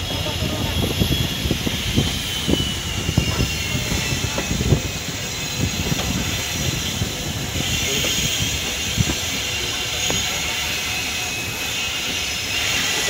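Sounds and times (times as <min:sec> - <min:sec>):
train rail rumble: 0:00.0 - 0:13.0.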